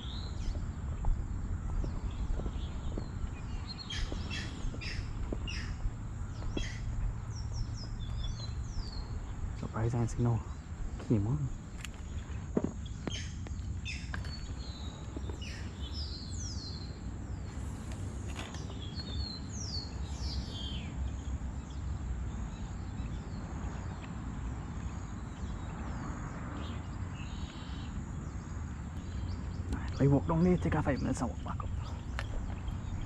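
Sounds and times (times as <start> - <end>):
birds chirping: 0.0 - 33.0
steady low rumble: 0.0 - 33.0.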